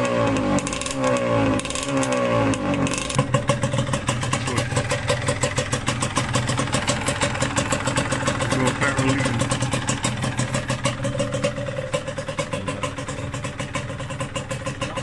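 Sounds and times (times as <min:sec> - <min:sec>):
two-stroke engine revving and idling: 0:00.0 - 0:15.0.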